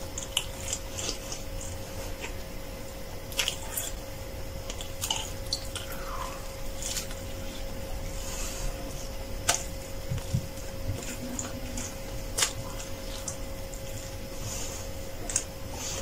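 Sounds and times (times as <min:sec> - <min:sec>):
crunchy chewing: 0:00.0 - 0:16.0
faint steady hum: 0:00.0 - 0:16.0.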